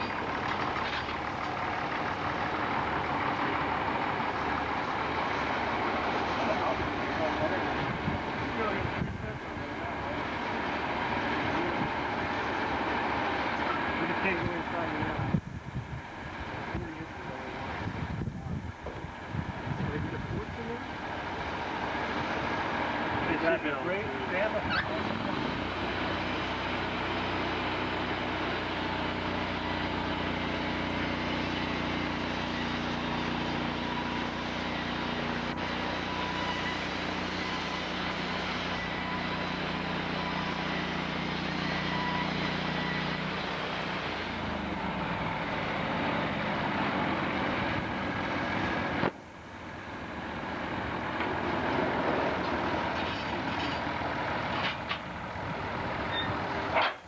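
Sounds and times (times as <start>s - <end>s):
dense mechanical noise: 0.0s - 57.0s
sawmill engine running: 0.0s - 57.0s.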